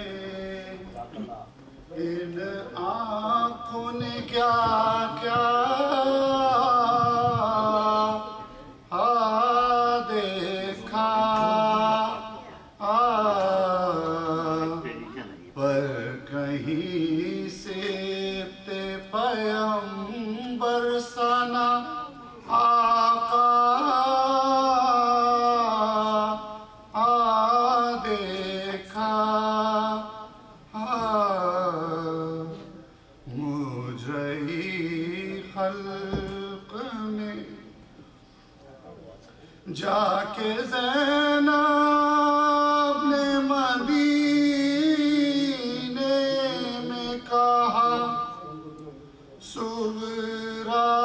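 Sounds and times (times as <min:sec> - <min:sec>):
man chanting unaccompanied: 0:00.0 - 0:37.8, 0:39.6 - 0:51.0.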